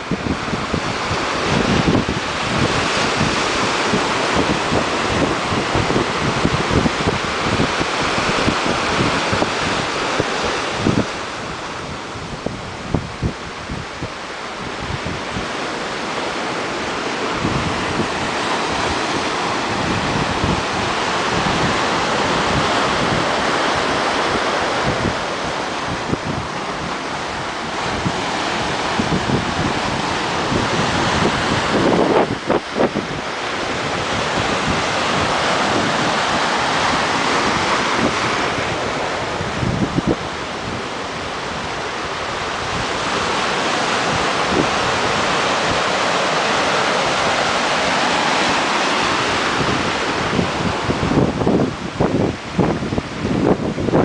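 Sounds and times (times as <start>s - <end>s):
ocean surf breaking on cobbles: 0.0s - 54.0s
wind buffeting microphone: 0.0s - 54.0s.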